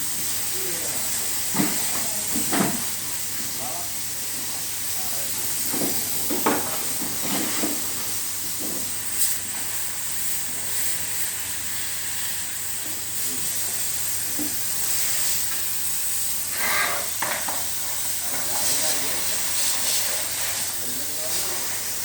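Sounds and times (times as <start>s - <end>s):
water spray jet hissing: 0.0s - 22.0s.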